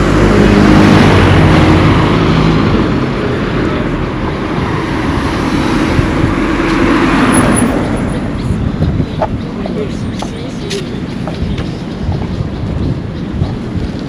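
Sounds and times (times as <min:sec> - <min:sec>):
vehicles passing close by: 0:00.0 - 0:14.0.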